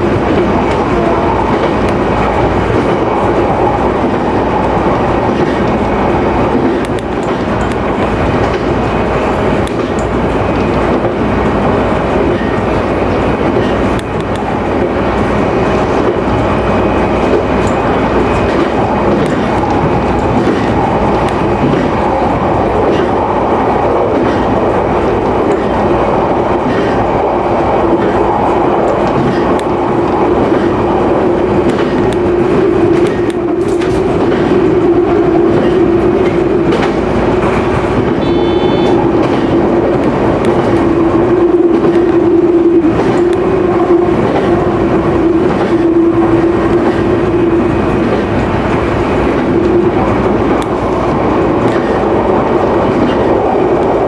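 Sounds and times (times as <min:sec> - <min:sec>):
wheels clicking over rail joints: 0:00.0 - 0:16.6, 0:17.2 - 0:54.0
train rumble and hum: 0:00.0 - 0:54.0.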